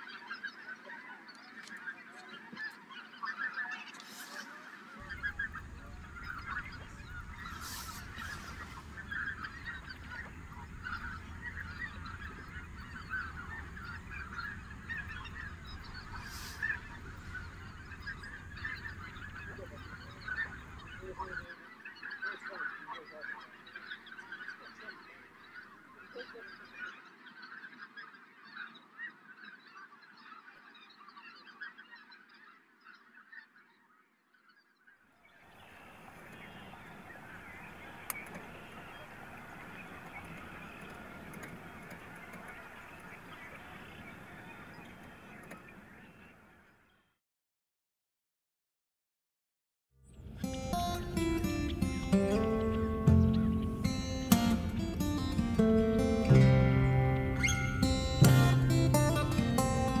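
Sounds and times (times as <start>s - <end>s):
flock of geese honking: 0.0s - 34.0s, 35.5s - 46.7s, 50.1s - 60.0s.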